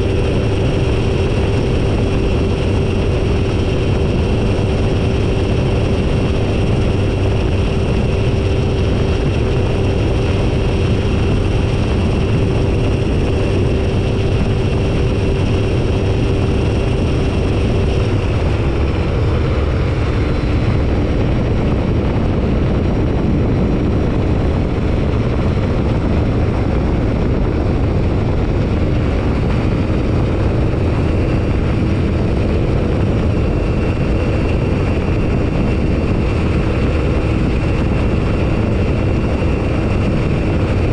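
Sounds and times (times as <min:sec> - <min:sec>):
aircraft engine and propeller droning: 0:00.0 - 0:40.9
wind rumble on microphone: 0:00.0 - 0:40.9.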